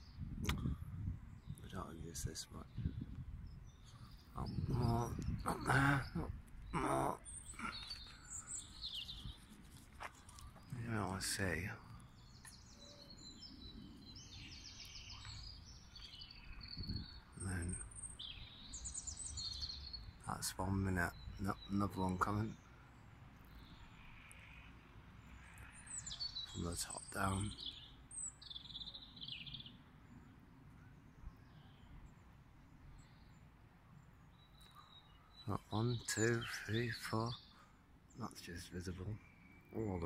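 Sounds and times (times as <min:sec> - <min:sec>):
small birds chirping and trilling: 0:00.0 - 0:40.0.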